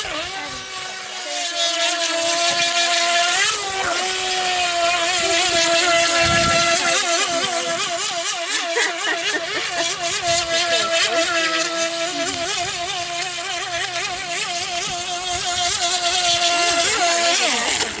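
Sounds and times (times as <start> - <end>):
toy boat motor whining: 0.0 - 18.0.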